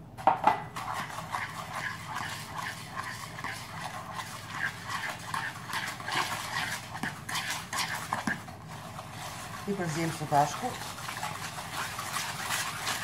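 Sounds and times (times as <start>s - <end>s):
fork scraping plastic bowl: 0.7s - 13.0s.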